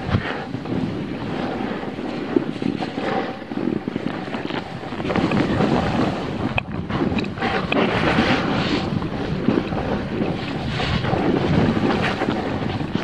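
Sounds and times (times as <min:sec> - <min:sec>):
snowboard scraping on snow: 0:00.0 - 0:13.0
wind on microphone: 0:00.0 - 0:13.0.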